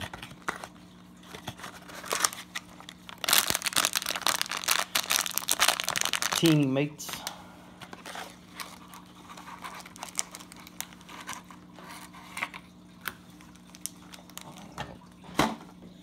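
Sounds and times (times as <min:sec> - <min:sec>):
plastic wrap crinkling: 0:00.0 - 0:14.8
faint steady hum: 0:00.0 - 0:16.0.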